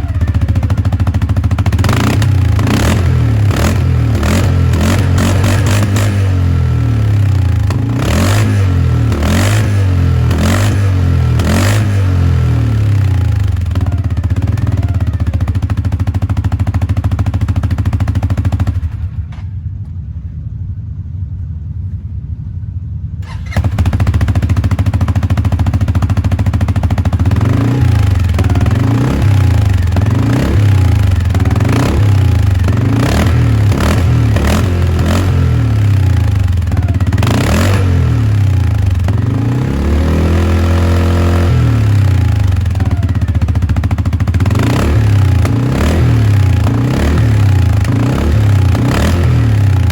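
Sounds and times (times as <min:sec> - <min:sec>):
atv engine revving: 0:00.0 - 0:19.0, 0:23.2 - 0:49.9.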